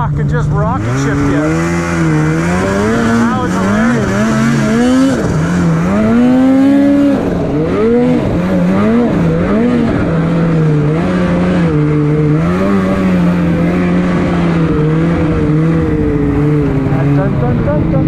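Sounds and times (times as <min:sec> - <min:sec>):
snowmobile engine revving: 0:00.0 - 0:18.0.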